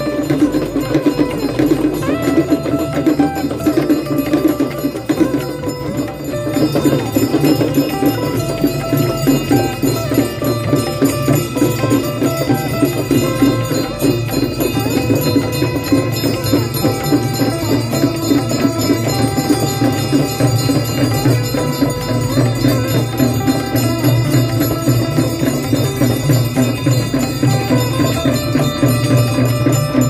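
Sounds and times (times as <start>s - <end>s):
bells ringing: 0.0s - 30.0s
fast steady percussion: 0.0s - 30.0s.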